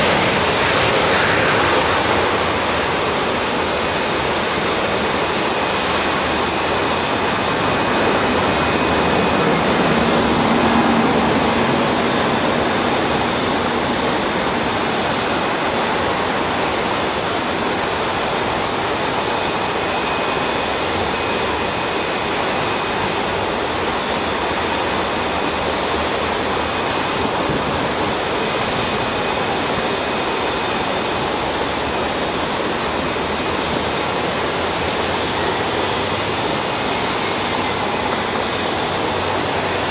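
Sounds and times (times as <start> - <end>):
jet engines humming with whine: 0.0 - 39.9.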